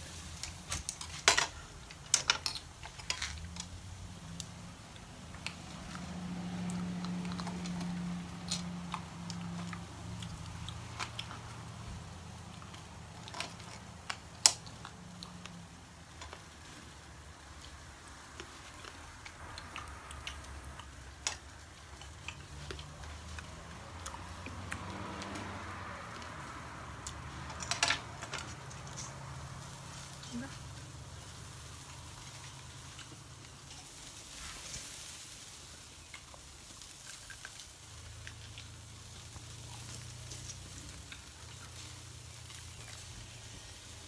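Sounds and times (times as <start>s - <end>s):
light chewing: 0.0s - 44.0s.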